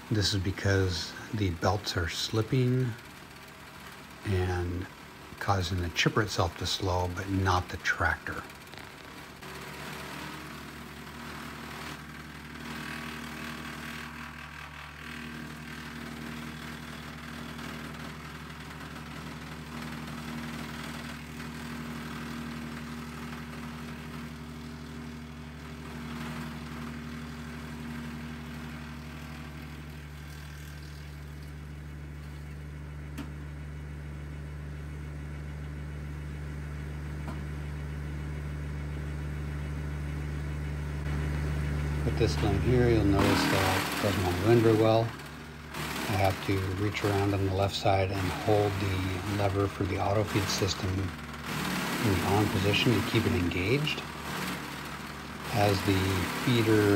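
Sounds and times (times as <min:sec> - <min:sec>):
wood chipper spinning empty: 0:00.0 - 0:33.6, 0:41.1 - 0:56.9
tractor diesel engine drone: 0:00.0 - 0:56.9
wood chipper grinding branches: 0:00.0 - 0:56.9.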